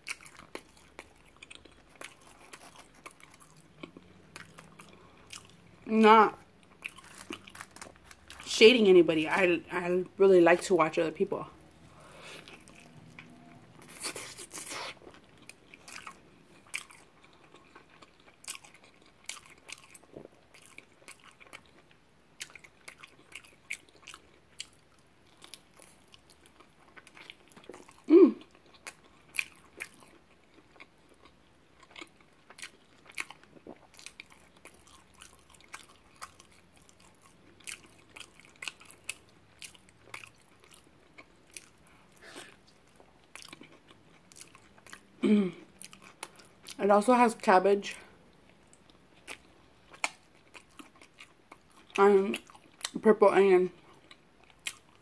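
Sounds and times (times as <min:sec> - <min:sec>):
chewing and mouth clicks: 0:00.0 - 0:05.8, 0:06.6 - 0:08.5, 0:12.4 - 0:46.8, 0:48.4 - 0:53.0, 0:53.8 - 0:55.0.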